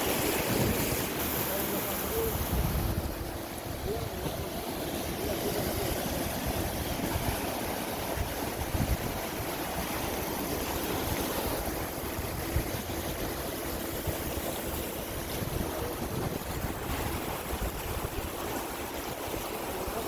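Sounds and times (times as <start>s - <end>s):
sea water rushing and splashing: 0.0s - 20.0s
wind buffeting microphone: 0.0s - 20.0s.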